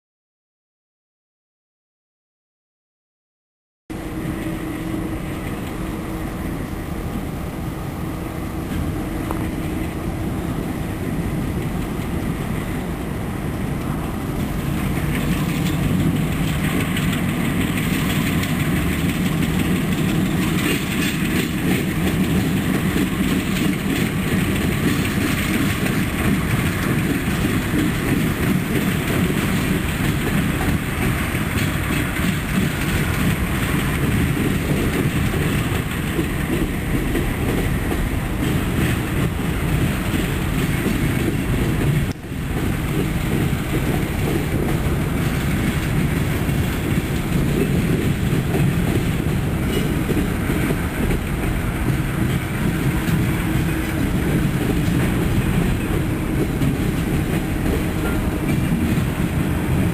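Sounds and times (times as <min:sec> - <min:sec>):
diesel locomotive engine rumble: 0:03.9 - 0:59.9.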